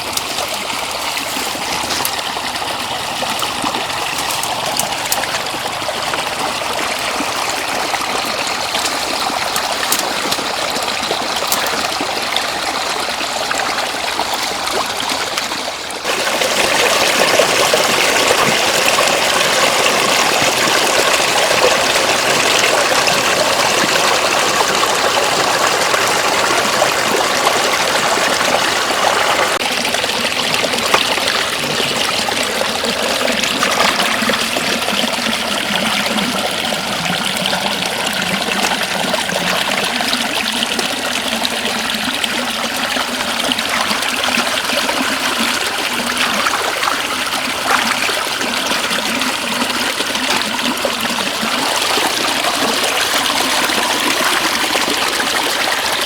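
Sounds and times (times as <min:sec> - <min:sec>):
floodwater flowing: 0:00.0 - 0:56.0.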